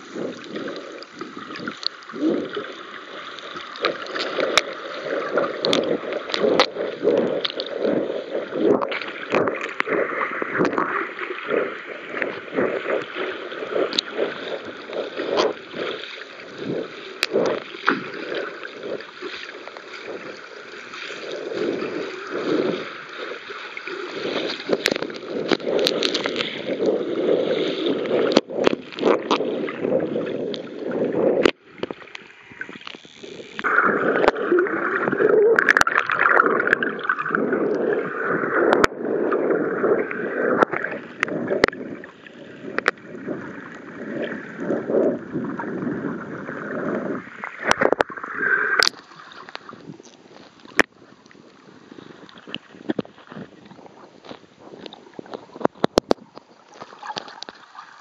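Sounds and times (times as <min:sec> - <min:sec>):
muffled rushing underwater: 0:00.0 - 0:58.0.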